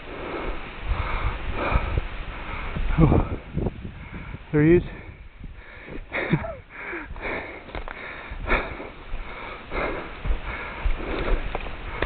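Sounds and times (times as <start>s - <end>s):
person breathing hard: 0.0s - 12.0s.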